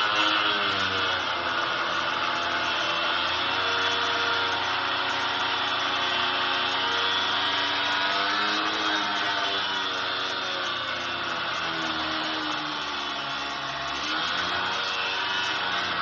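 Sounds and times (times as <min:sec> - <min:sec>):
power saw cutting through steel: 0:00.0 - 0:16.0.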